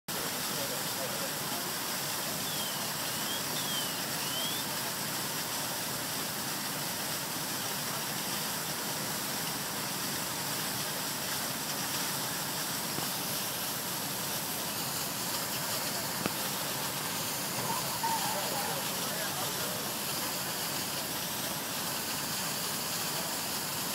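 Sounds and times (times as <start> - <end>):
rushing hiss of fire: 0.1 - 23.9.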